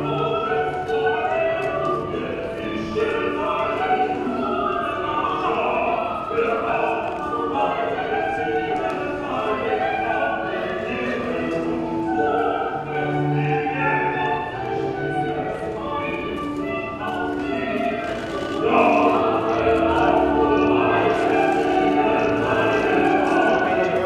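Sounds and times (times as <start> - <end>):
classical music with operatic singing: 0.0 - 24.0.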